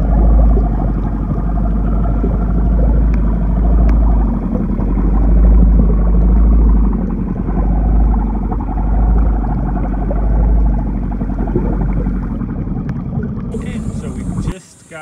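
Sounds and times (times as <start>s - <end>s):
muffled underwater rumble: 0.0s - 14.6s.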